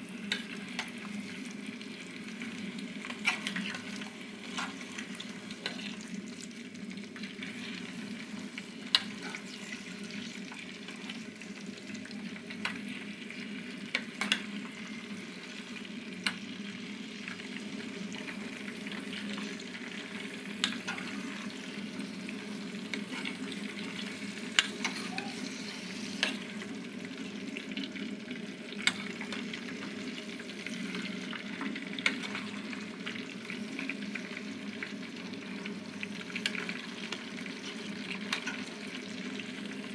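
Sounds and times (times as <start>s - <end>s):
chips sizzling in a pot: 0.0s - 39.9s.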